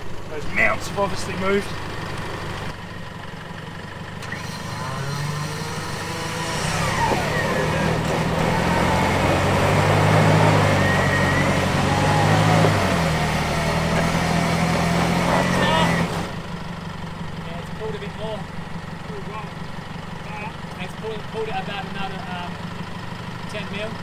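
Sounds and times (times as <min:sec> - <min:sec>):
truck engine revving under load: 0:00.0 - 0:24.0.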